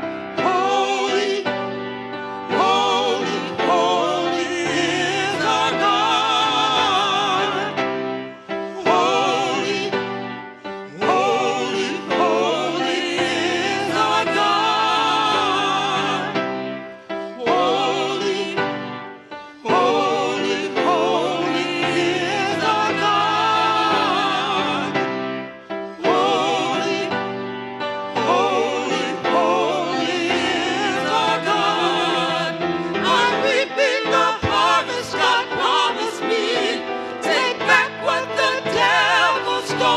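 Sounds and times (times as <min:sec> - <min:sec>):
gospel singing with vibrato: 0:00.0 - 0:39.9
musical accompaniment: 0:00.0 - 0:39.9.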